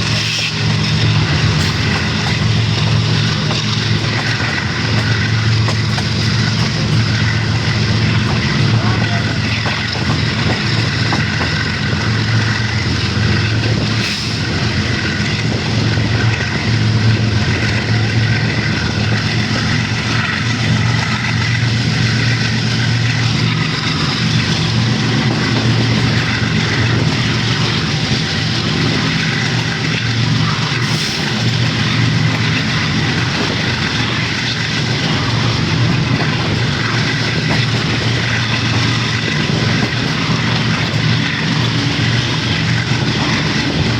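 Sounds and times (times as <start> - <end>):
locomotive engine low drone: 0.0 - 43.9.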